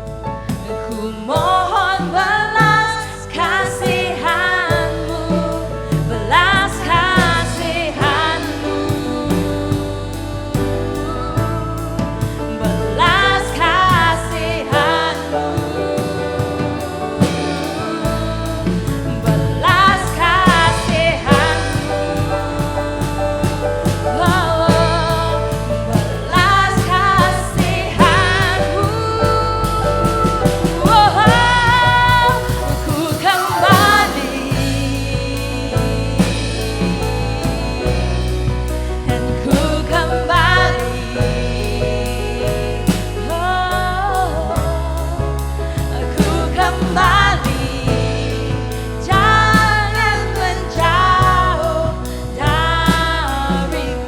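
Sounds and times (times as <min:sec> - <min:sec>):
band playing gospel music: 0:00.0 - 0:54.0
person singing: 0:00.0 - 0:54.0.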